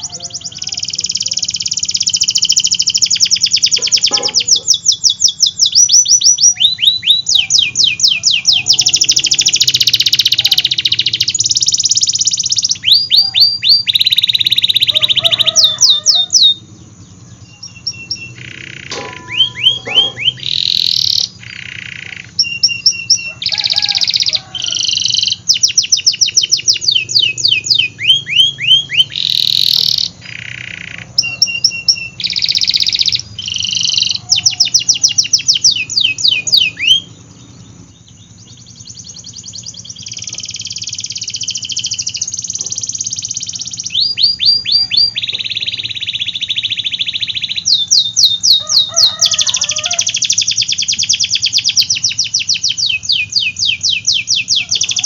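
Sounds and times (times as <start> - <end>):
canary singing trilled song: 0.0 - 55.0.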